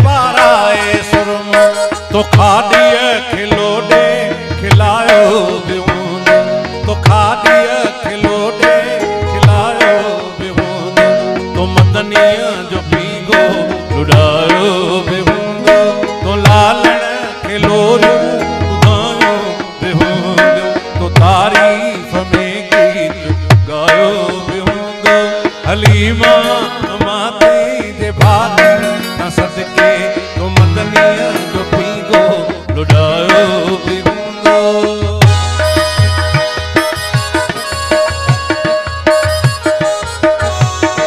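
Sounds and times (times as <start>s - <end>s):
tabla rhythm: 0.0s - 41.0s
wavering keyboard melody: 0.0s - 41.0s.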